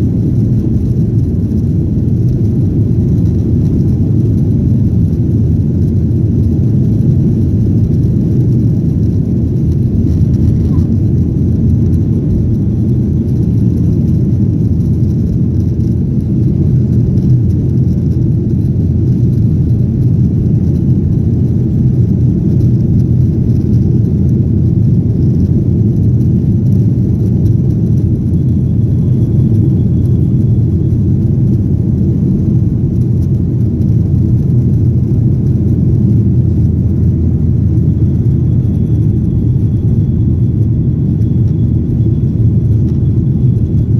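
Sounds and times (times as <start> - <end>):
jet engine rumble in cabin: 0.0 - 43.9.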